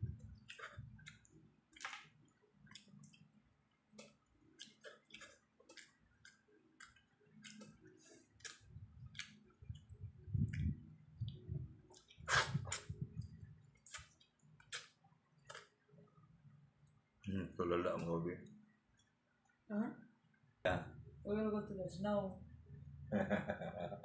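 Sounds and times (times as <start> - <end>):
chewing and handling food: 0.1 - 19.6.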